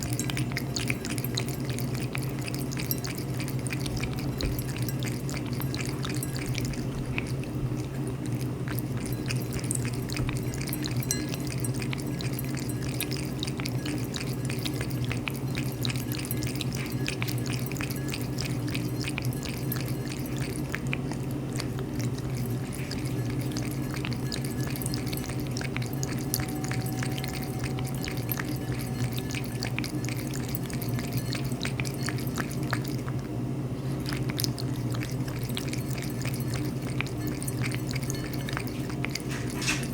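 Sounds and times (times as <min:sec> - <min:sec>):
cat lapping water: 0:00.0 - 0:39.9
steady low hum: 0:00.0 - 0:39.9.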